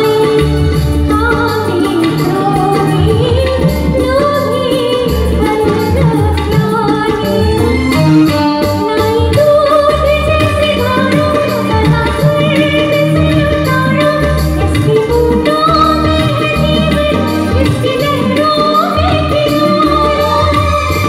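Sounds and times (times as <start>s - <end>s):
bass and rhythm accompaniment: 0.0s - 21.0s
woman singing into a microphone: 0.0s - 21.0s.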